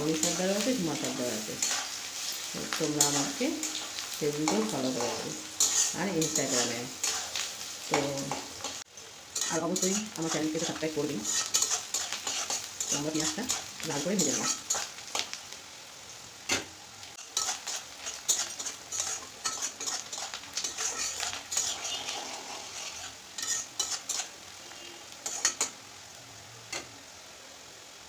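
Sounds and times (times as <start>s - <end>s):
onions sizzling in oil: 0.0s - 28.0s
metal spatula scraping a pan: 0.1s - 8.8s, 9.4s - 15.3s, 16.5s - 25.8s.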